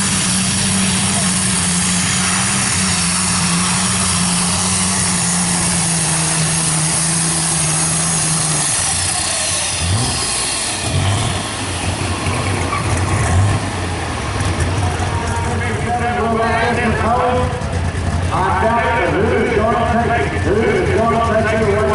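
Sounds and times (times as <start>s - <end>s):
pulling tractor engine roaring: 0.0s - 21.9s.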